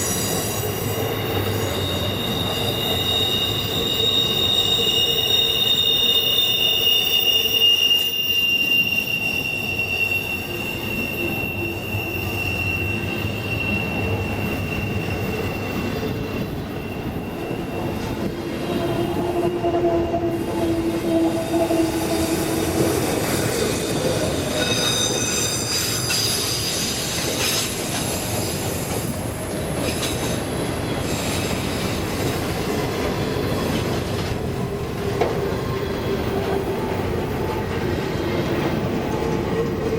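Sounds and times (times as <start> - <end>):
steel wheel squeal: 0.0 - 34.0.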